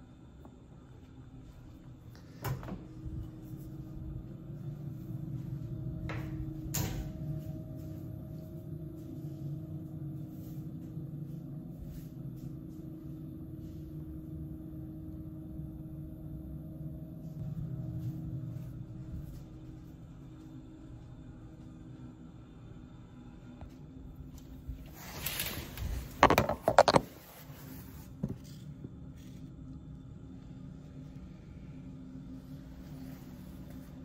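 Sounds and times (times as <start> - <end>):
exhaust fan humming: 0.0 - 34.0.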